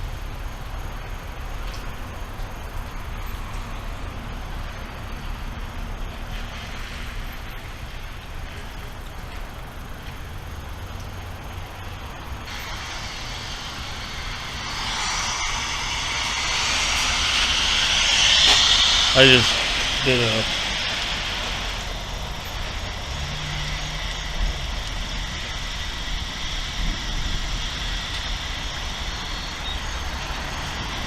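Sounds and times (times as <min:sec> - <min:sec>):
steady rain: 0:00.0 - 0:31.0
low rumble: 0:02.2 - 0:31.0.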